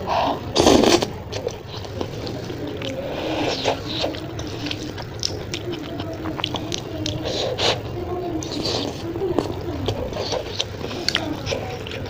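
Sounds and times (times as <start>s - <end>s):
slurping and chewing noodles: 0.0s - 12.0s.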